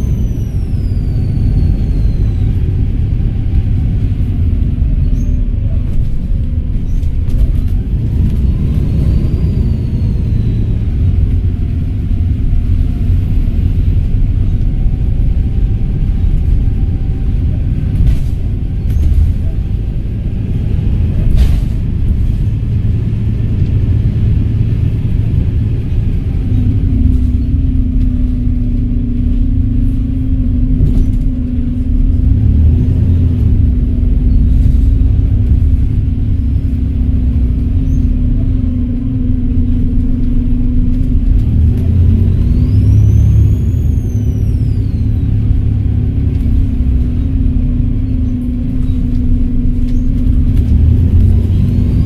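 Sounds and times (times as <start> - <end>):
bus diesel engine droning: 0.0 - 52.0.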